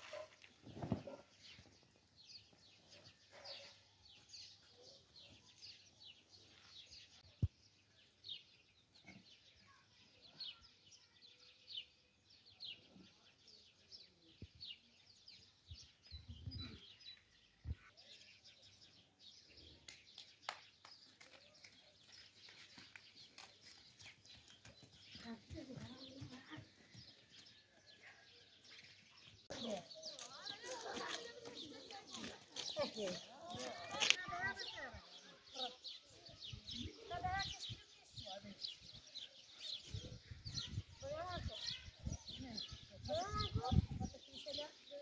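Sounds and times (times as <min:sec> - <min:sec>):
birds chirping faintly: 0:00.0 - 0:45.0.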